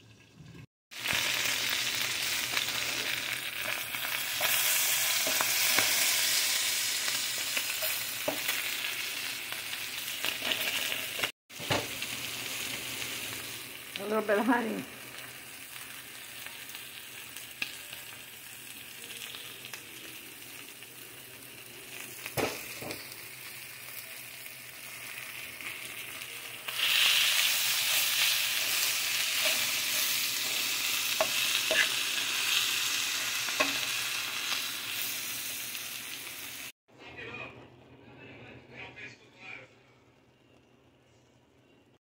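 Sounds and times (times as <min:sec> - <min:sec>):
food sizzling in a frying pan: 0:00.0 - 0:36.8.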